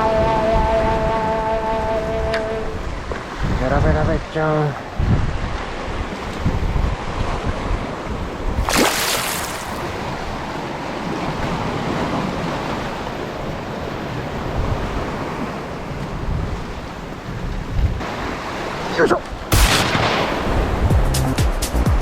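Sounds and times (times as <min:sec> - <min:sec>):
sea surf washing against rocks: 0:00.0 - 0:21.0
wind buffeting microphone: 0:00.0 - 0:21.2.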